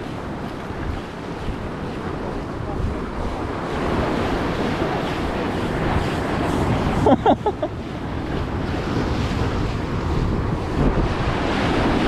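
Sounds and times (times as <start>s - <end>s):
surf on rocky shore: 0.0s - 12.0s
wind buffeting microphone: 0.0s - 12.0s.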